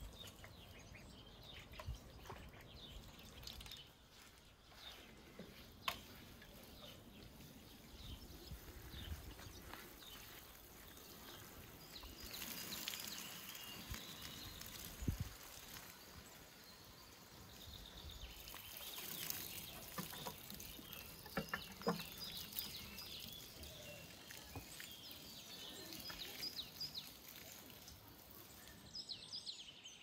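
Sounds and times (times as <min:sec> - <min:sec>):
birds chirping: 0:00.0 - 0:30.0
faint hiss of open air: 0:00.0 - 0:30.0.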